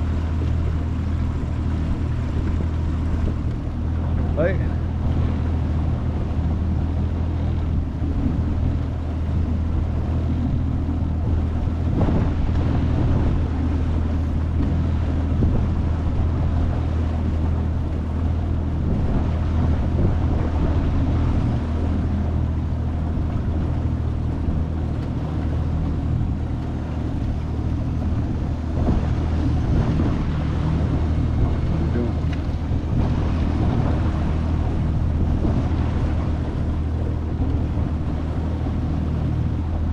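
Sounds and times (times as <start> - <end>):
outboard motor running: 0.0 - 39.9
wind noise on microphone: 0.0 - 39.9.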